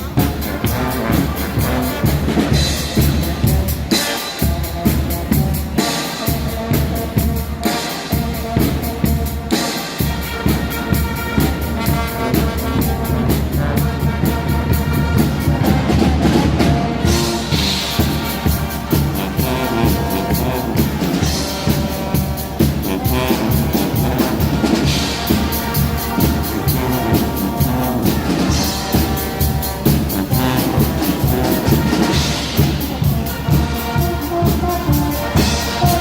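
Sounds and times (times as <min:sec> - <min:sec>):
carnival band playing loudly: 0:00.0 - 0:36.0.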